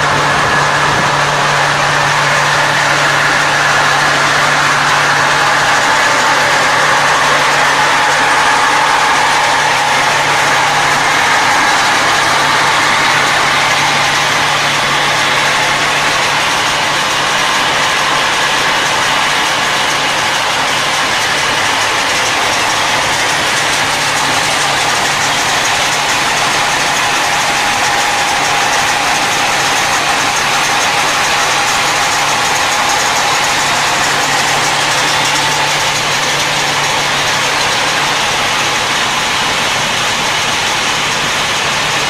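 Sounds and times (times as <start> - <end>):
constant hum: 0.0 - 42.0
conveyor machinery running: 0.0 - 42.0.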